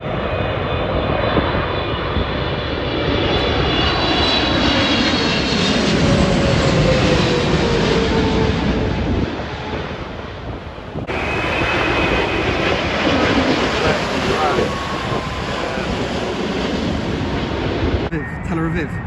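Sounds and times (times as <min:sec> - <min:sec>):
jet engines roaring overhead: 0:00.0 - 0:19.0
high engine whine: 0:01.7 - 0:19.0.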